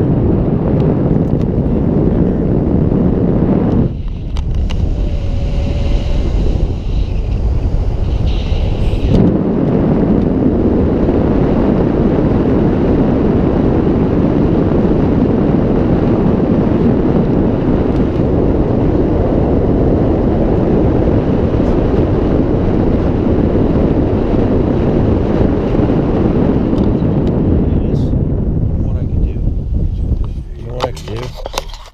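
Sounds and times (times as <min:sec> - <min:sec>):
road and wind noise in car: 0:00.0 - 0:31.9.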